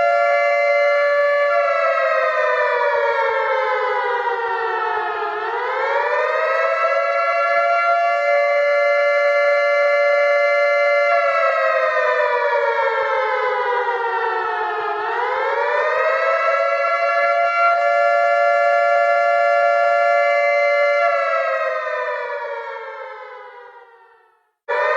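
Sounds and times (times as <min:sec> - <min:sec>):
air-raid siren wailing: 0:00.0 - 0:24.9.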